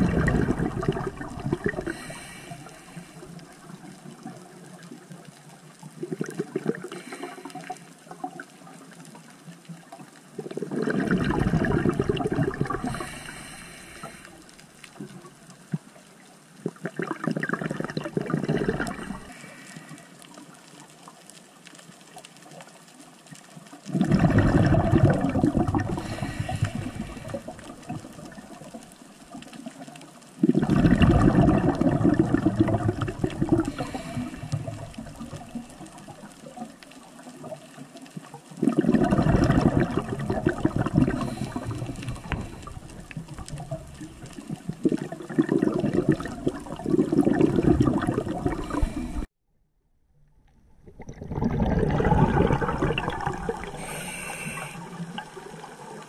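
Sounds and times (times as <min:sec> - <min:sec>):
underwater exhaled bubbles rushing: 0:00.0 - 0:09.3, 0:09.9 - 0:15.7, 0:16.6 - 0:20.5, 0:23.7 - 0:49.3, 0:50.7 - 0:56.0.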